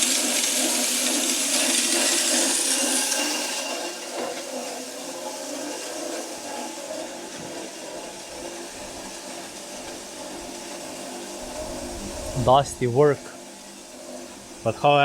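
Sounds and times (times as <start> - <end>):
grain mill grinding corn: 0.0 - 15.0.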